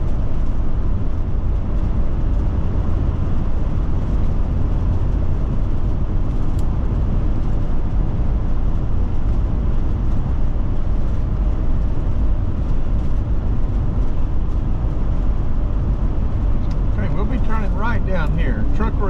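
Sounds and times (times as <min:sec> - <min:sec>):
motorhome road and engine rumble: 0:00.0 - 0:19.0.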